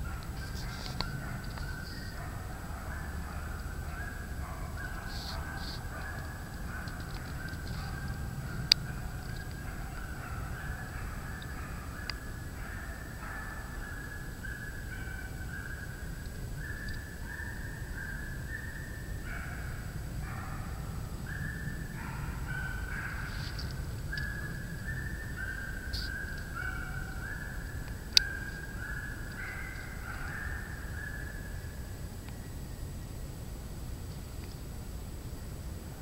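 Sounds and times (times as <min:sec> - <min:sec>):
dogs baying: 0:00.0 - 0:31.7.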